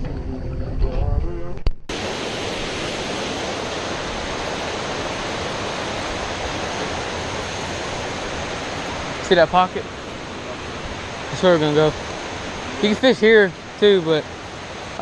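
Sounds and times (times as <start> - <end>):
waterfall rushing: 1.9 - 15.0.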